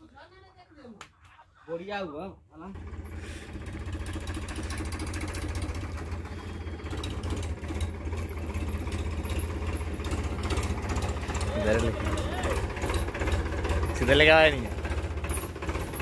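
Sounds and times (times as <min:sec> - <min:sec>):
diesel tractor engine clatter: 0:02.8 - 0:16.0.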